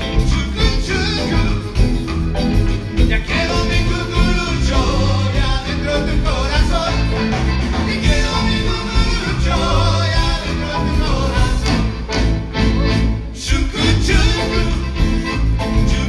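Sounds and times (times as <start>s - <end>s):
lead singer singing: 0.0s - 2.0s, 2.9s - 12.2s, 13.4s - 16.0s
accordion: 0.0s - 16.0s
bass line: 0.0s - 16.0s
rock band playing: 0.0s - 16.0s.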